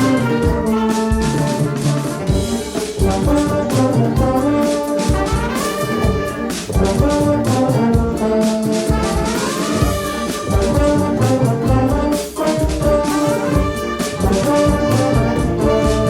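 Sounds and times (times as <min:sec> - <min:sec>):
drums: 0:00.0 - 0:16.0
rising brass glide: 0:00.0 - 0:16.0
street brass band playing: 0:00.0 - 0:16.0.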